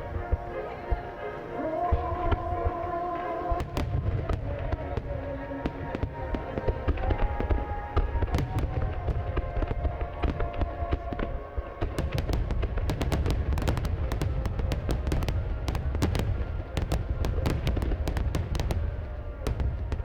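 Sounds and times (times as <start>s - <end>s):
fireworks booming: 0.0s - 20.0s
fireworks crackling: 0.0s - 20.0s
music with long held notes: 0.0s - 20.0s.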